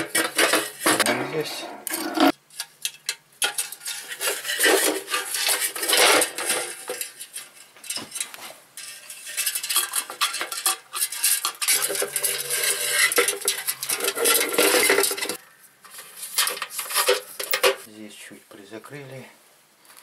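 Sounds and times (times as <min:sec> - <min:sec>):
metal clinking and scraping: 0:00.0 - 0:17.9.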